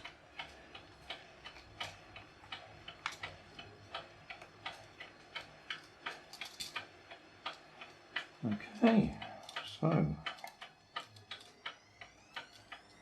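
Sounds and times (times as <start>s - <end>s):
mechanical clock ticking: 0.0s - 13.0s.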